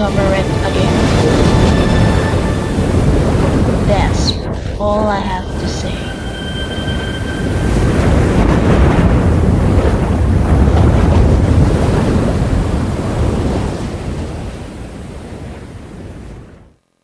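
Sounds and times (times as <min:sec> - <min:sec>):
ocean waves washing in: 0:00.0 - 0:16.7.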